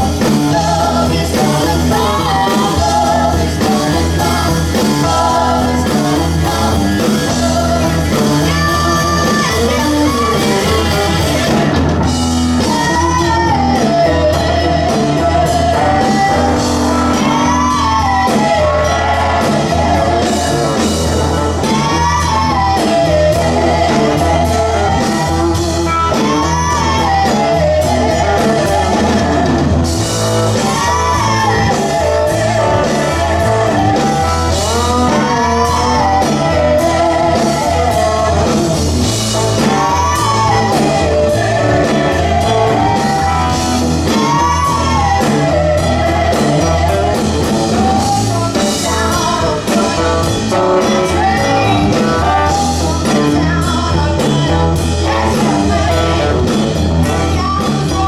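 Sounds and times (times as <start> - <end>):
blues-rock band playing: 0.0 - 58.0
women singing: 0.0 - 58.0.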